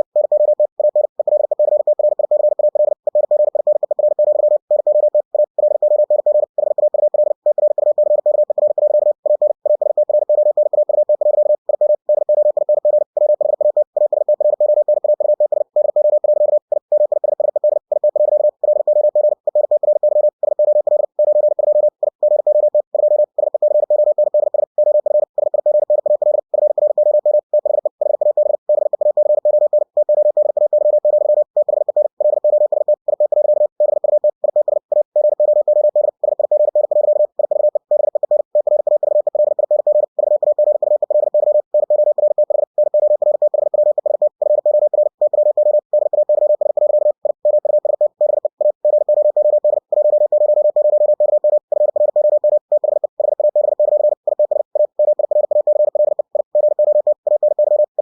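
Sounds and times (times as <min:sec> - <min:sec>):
morse code tone: 0:00.0 - 0:58.0.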